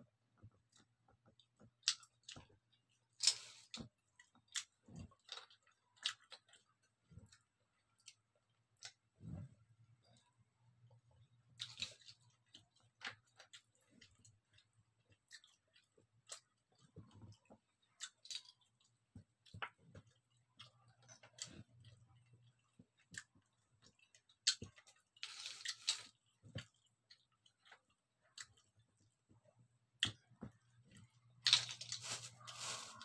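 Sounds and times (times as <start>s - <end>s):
quiet chewing: 0.3s - 33.0s.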